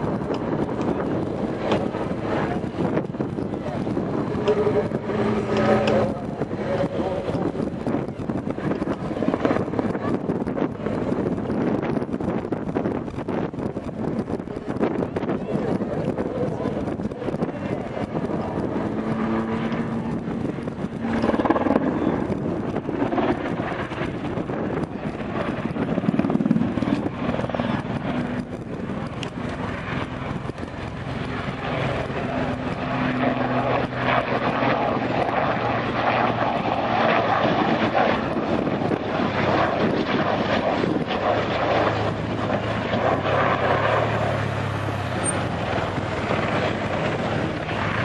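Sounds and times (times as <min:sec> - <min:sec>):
helicopter rotor and turbine noise: 0:00.0 - 0:48.0.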